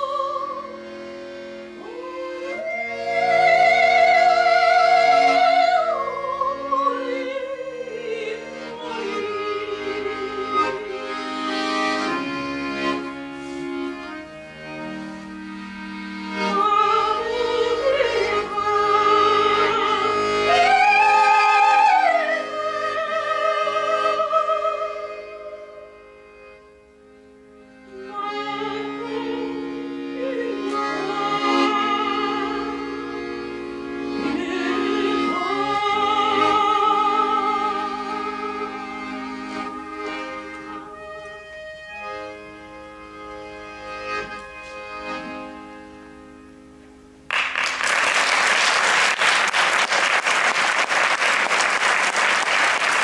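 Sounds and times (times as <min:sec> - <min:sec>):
accordion playing tremolo melody: 0:00.0 - 0:53.0.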